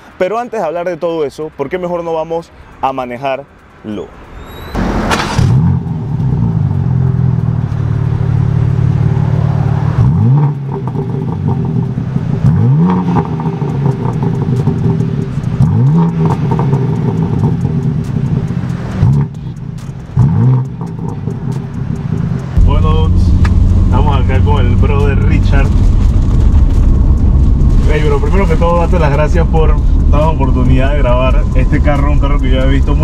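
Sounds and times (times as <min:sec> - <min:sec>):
car engine revving: 0:03.5 - 0:33.0.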